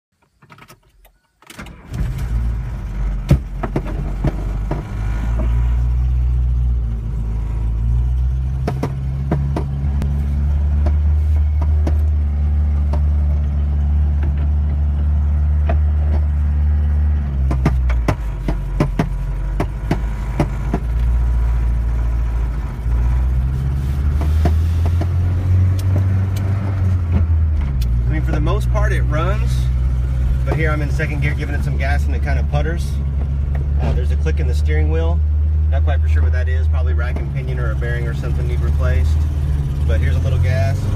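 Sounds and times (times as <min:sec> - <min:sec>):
truck engine running: 0:01.8 - 0:40.9.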